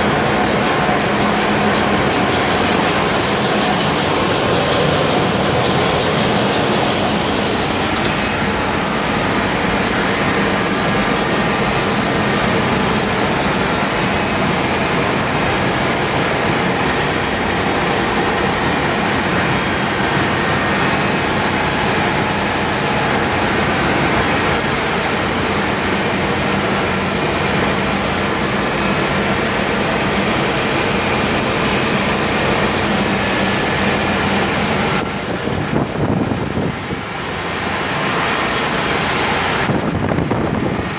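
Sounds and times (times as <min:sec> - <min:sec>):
engine room machinery din: 0:00.0 - 0:40.9
high whine: 0:00.0 - 0:40.9.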